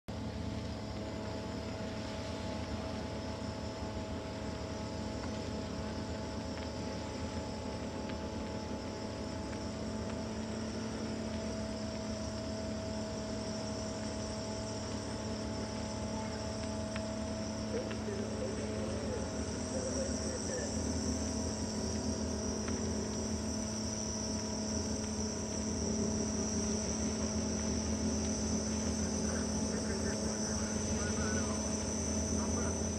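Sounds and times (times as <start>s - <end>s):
insects chirring: 0.1s - 32.9s
low engine hum: 0.1s - 32.9s.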